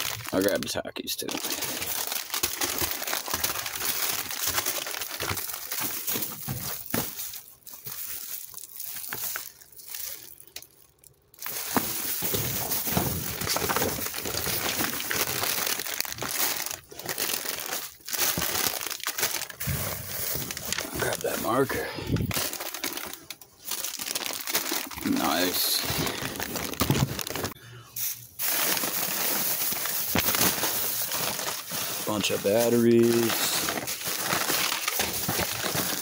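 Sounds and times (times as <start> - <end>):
plastic bags crinkling: 0.0 - 36.0.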